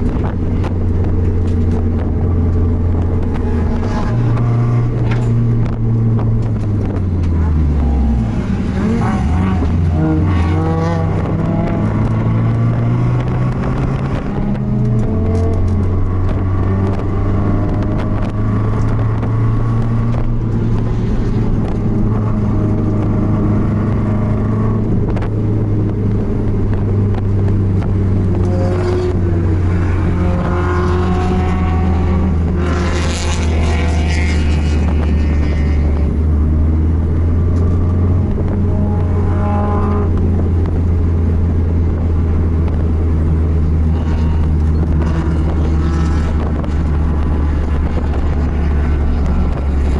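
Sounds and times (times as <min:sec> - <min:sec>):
race car engine running: 0:00.0 - 0:49.9.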